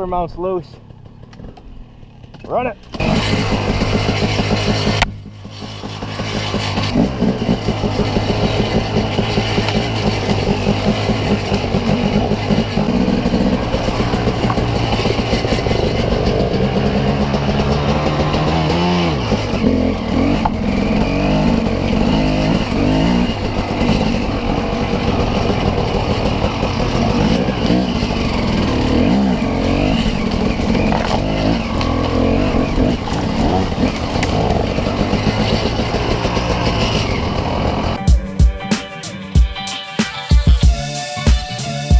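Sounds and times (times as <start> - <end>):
dirt bike engine revving: 2.8 - 38.4.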